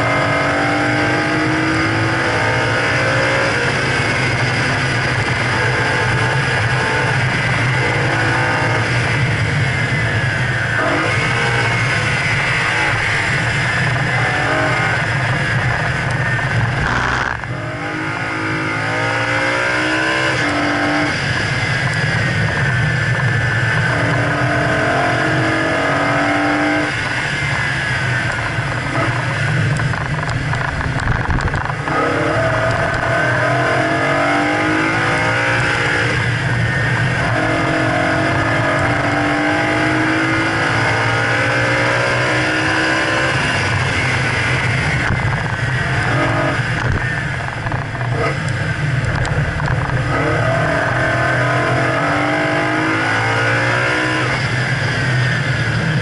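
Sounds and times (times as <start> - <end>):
car engine accelerating hard: 0.0 - 56.0
road and wind noise: 0.0 - 56.0.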